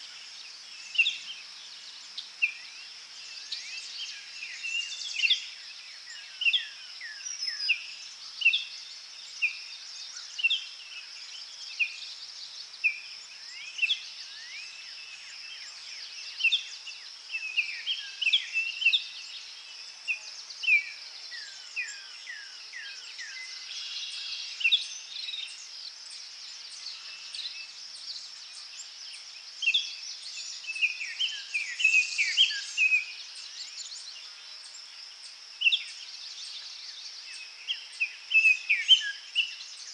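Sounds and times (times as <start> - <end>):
forest birds chirping: 0.0 - 39.9.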